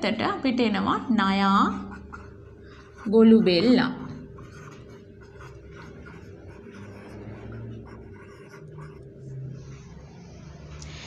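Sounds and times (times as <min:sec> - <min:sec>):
marker scratching on whiteboard: 0:01.3 - 0:10.6.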